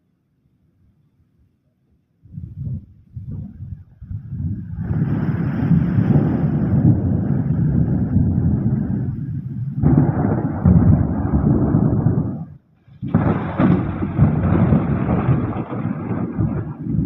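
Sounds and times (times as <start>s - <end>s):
thunder rumbling: 2.3s - 17.0s.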